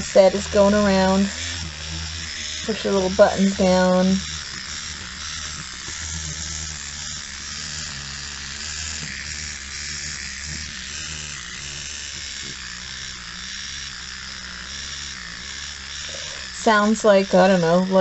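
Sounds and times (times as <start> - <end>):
clockwork toy whirring: 0.0 - 18.0.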